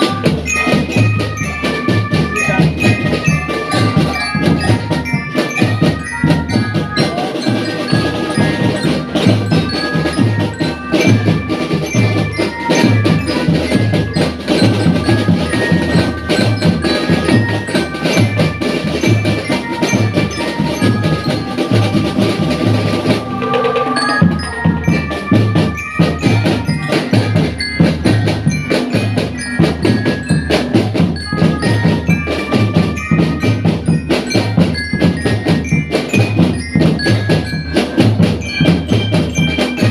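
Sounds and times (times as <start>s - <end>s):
bell-lyre melody: 0.0s - 39.9s
marching drums beating: 0.0s - 39.9s.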